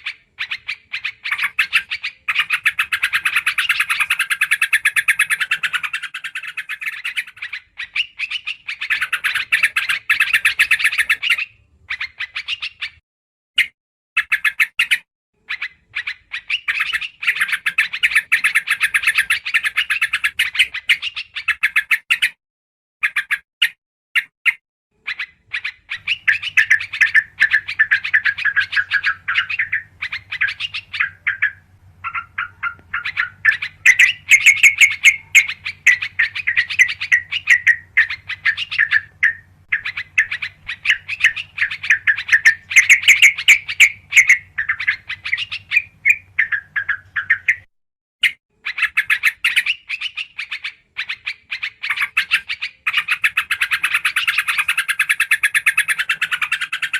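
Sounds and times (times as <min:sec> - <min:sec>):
bulbuls chattering chirps: 0:00.0 - 0:13.0, 0:15.4 - 0:22.0, 0:25.0 - 0:47.7, 0:48.3 - 0:56.9.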